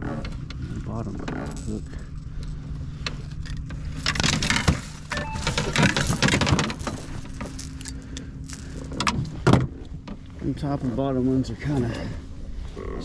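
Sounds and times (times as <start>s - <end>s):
clattering and rustling in a boat: 0.0s - 13.0s
low motor hum: 0.0s - 13.0s.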